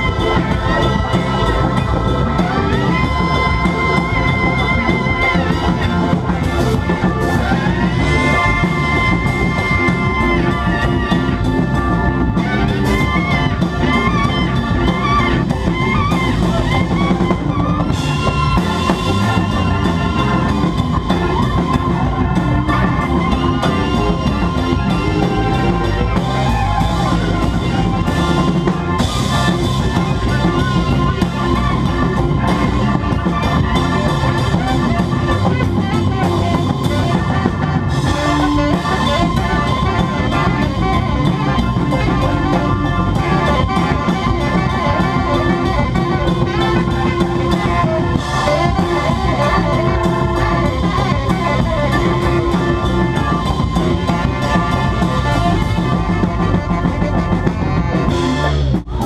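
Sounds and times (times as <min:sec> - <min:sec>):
drum kit beat: 0:00.0 - 0:59.0
electric keyboards and organ: 0:00.0 - 0:59.0
live band playing: 0:00.0 - 0:59.0.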